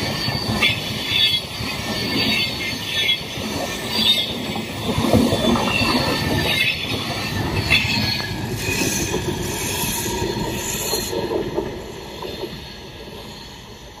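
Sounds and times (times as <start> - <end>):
high-pitched wheel squeal: 0.0 - 14.0
train wheels on rails: 0.0 - 14.0.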